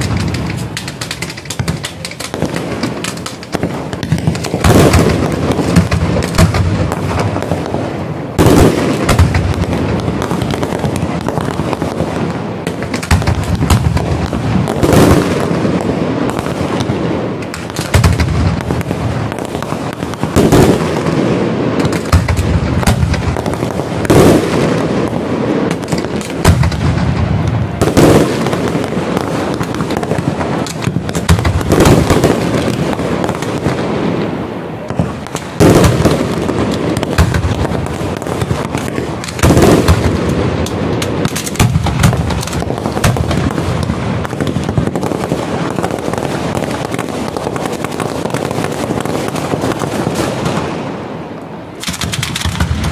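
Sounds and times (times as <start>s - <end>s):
fireworks crackling and popping: 0.0s - 52.9s
loud firework bangs: 0.0s - 52.9s.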